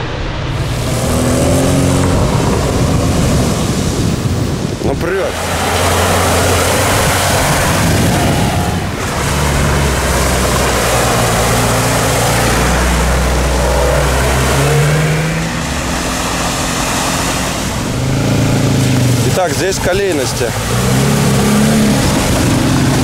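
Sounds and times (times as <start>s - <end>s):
engines running under load: 0.0s - 23.0s
tyres churning mud: 0.6s - 23.0s.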